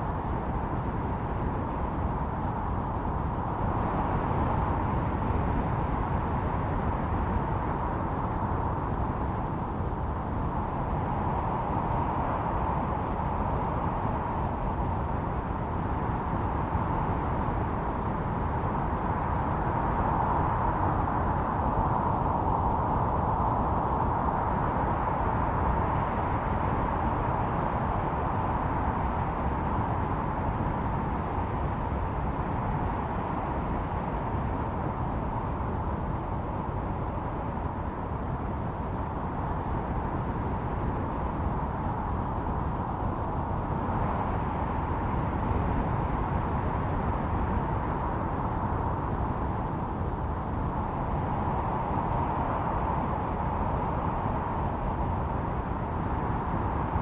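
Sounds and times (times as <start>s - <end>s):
snowstorm wind howling: 0.0s - 57.0s.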